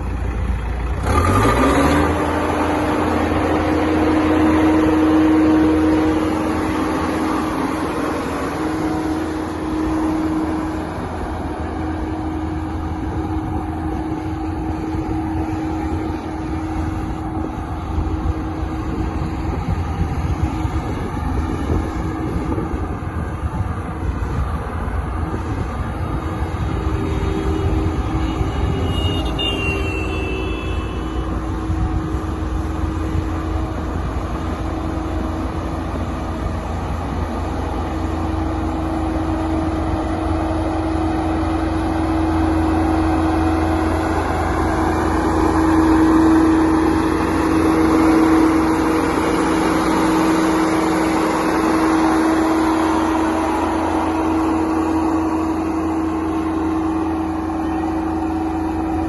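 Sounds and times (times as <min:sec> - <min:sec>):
road roller engine rumbling: 0:00.0 - 0:59.0.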